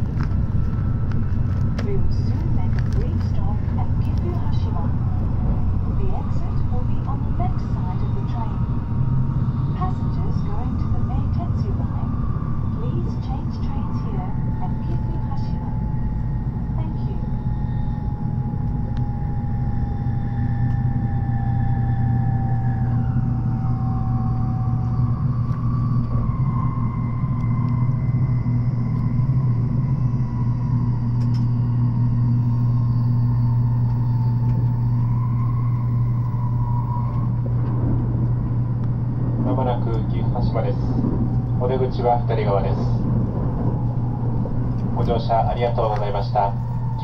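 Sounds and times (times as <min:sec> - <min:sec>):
train rumble inside cabin: 0:00.0 - 0:47.0.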